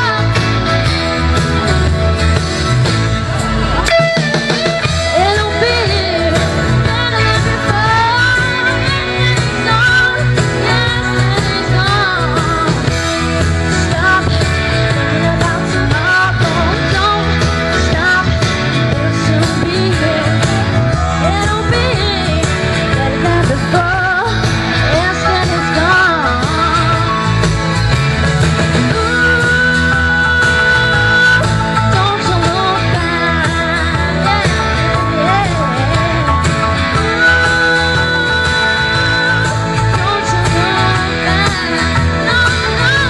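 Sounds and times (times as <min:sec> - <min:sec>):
woman singing into microphone: 0:00.0 - 0:01.1, 0:04.8 - 0:27.8, 0:28.7 - 0:43.0
loud backing music with bass: 0:00.0 - 0:43.0.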